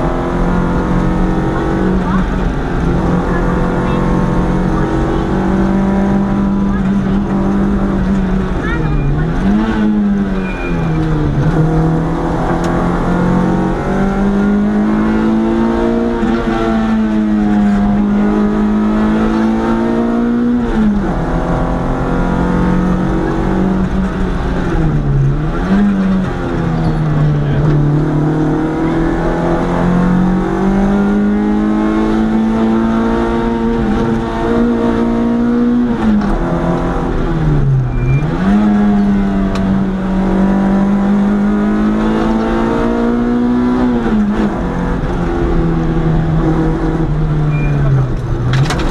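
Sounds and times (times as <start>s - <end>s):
rally car engine at high revs: 0.0s - 48.9s.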